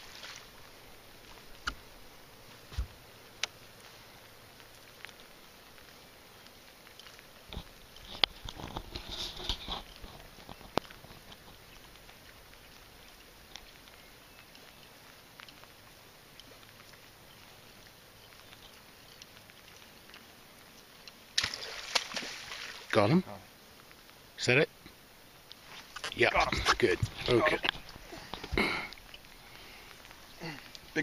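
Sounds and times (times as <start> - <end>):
faint scattered ticks: 0.0 - 31.0.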